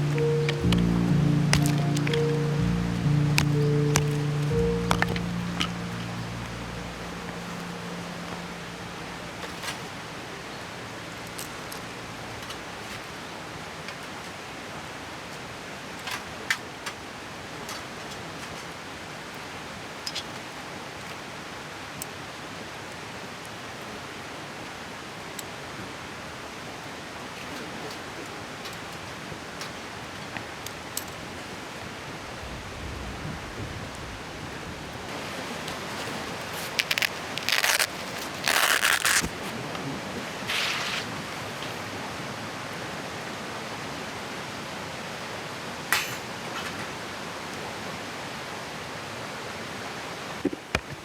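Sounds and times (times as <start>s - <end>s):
mountain stream rushing: 0.0s - 27.4s, 35.0s - 50.4s.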